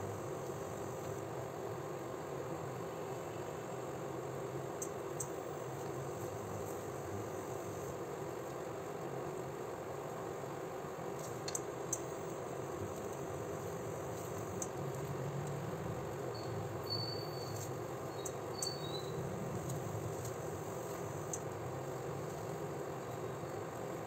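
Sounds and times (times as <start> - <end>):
room hiss: 0.0 - 24.0.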